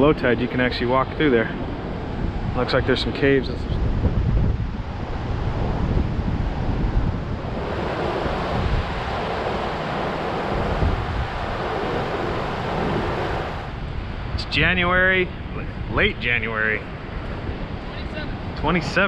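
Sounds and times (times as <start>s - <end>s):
ocean surf washing ashore: 0.0s - 19.0s
wind buffeting microphone: 0.0s - 19.0s.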